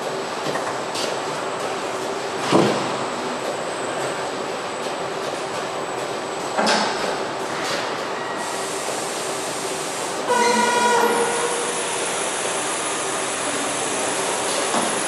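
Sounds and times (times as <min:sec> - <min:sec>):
assembly line machinery noise: 0:00.0 - 0:15.0.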